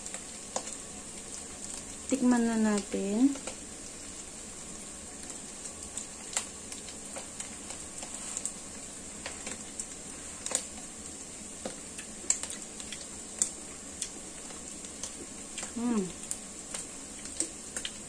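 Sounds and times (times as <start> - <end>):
crackles and pops from frying: 0.0 - 18.0
meat sizzling in a wok: 0.0 - 18.0.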